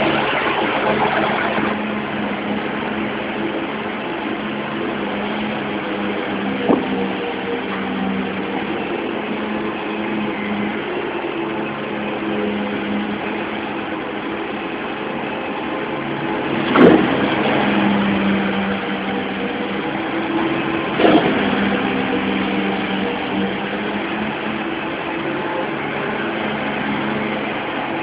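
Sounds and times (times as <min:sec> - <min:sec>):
dumper engine running: 0:00.0 - 0:28.0.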